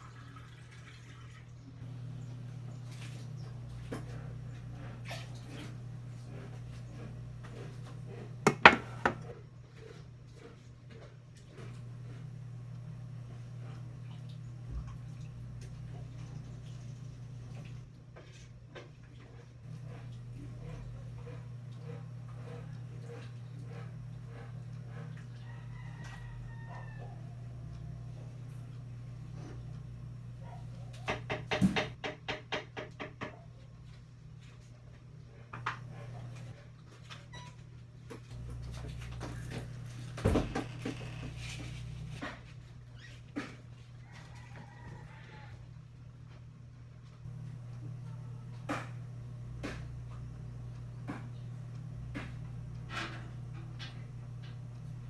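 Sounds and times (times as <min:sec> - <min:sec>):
steady low hum: 0:01.3 - 0:32.0, 0:33.6 - 0:55.0.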